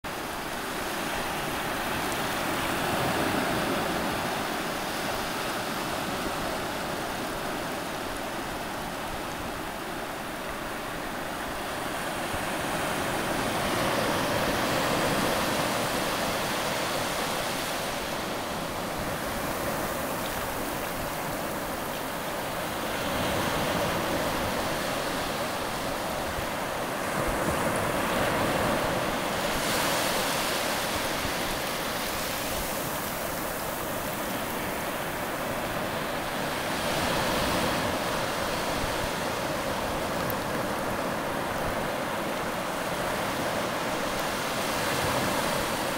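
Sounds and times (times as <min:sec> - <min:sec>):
surf washing over sand: 0:00.1 - 0:45.9.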